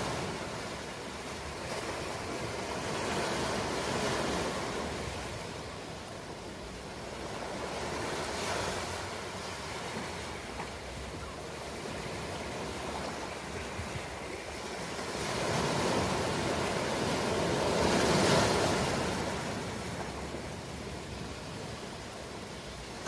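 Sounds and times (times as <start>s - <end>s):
ocean waves breaking on shore: 0.0s - 23.0s.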